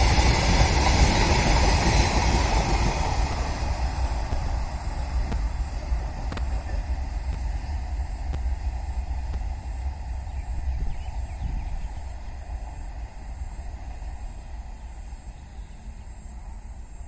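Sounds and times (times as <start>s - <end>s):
wind buffeting microphone: 0.0s - 15.7s
freight train rumble: 0.0s - 17.0s.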